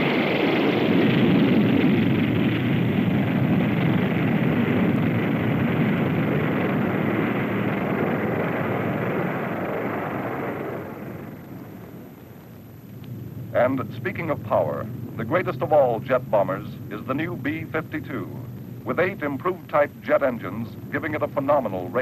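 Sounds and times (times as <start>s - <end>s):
jet and rocket engines roaring: 0.0s - 22.0s.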